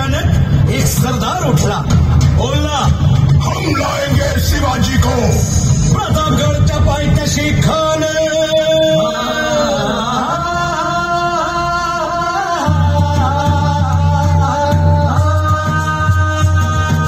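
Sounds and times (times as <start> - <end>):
song over stage loudspeakers: 0.0 - 17.0.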